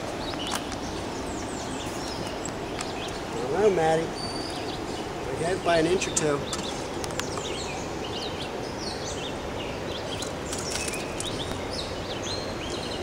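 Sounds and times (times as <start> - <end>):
songbirds chirping and whistling: 0.0 - 13.0
steady rushing noise: 0.0 - 13.0.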